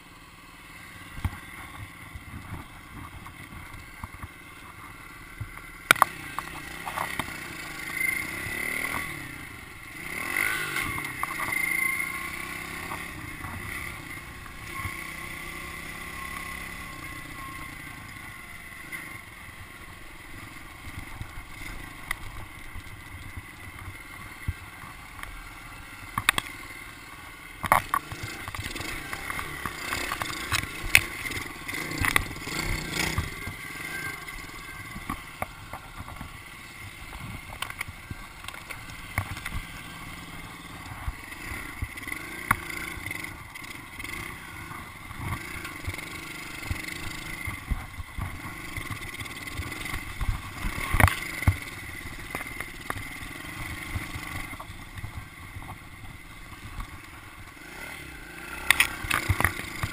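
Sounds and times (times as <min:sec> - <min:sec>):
motorbike engine running: 0:00.9 - 0:59.9
bike knocking and rattling over bumps: 0:01.0 - 0:59.9.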